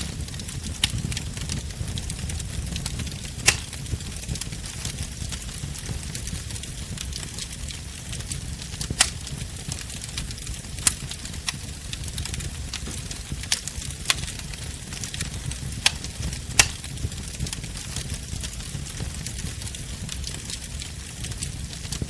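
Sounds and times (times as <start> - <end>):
bonfire rumble and hiss: 0.0 - 22.0
fire crackling pops: 0.0 - 22.0.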